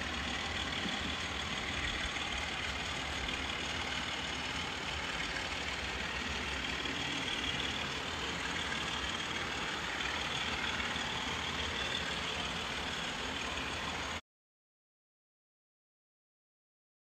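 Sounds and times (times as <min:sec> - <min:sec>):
model train running rumble: 0:00.0 - 0:14.2.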